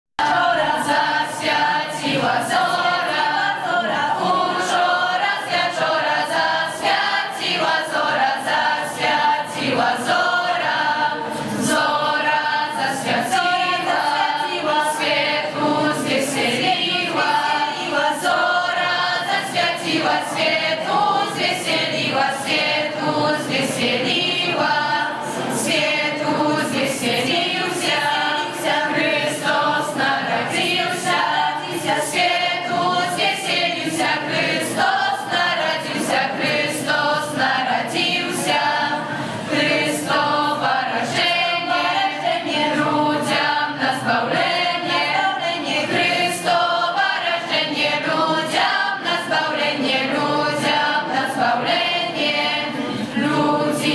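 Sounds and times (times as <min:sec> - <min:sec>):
choir singing a cappella: 0:00.2 - 0:53.9.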